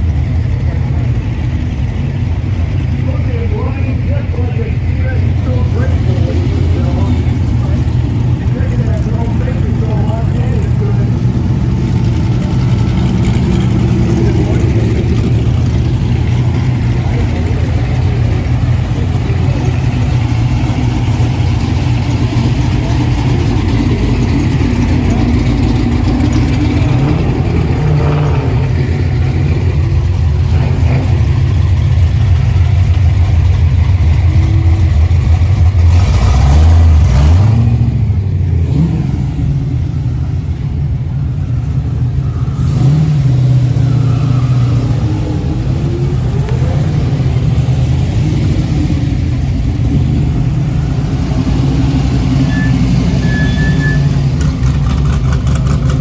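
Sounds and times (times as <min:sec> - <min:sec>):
car engines idling and revving: 0:00.0 - 0:56.0.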